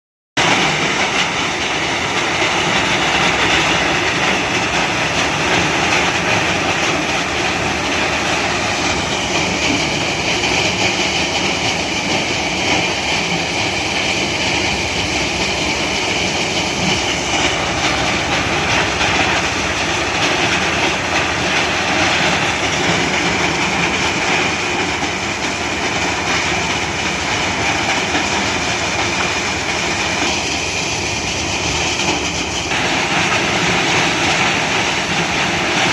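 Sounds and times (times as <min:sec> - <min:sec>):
plant machinery running: 0:00.4 - 0:35.9.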